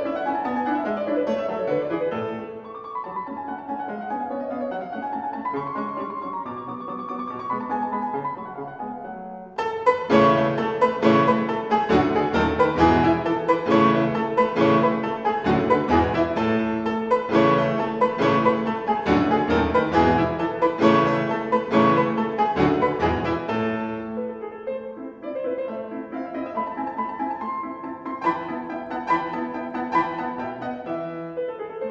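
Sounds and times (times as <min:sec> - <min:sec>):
instrumental music: 0:00.0 - 0:31.9.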